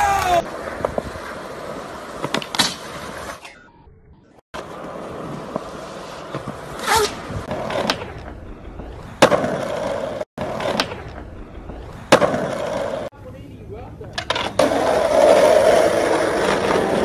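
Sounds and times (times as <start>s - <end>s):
skateboard wheels rolling on concrete: 0.0s - 3.6s, 4.5s - 17.0s.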